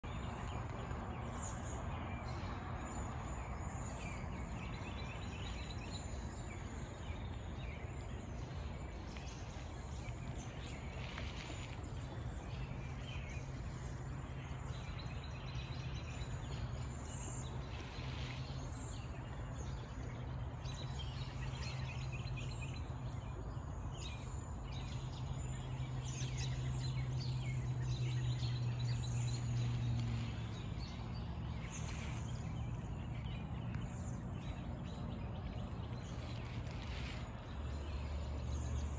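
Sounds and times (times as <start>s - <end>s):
birds calling: 0.0s - 38.9s
steady low hum: 0.0s - 38.9s.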